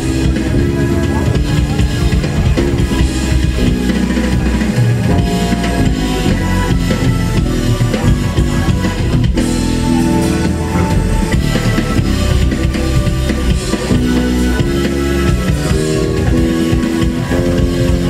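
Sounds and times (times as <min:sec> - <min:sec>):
drum and bass backing track: 0:00.0 - 0:18.0
electric bass guitar: 0:00.0 - 0:18.0.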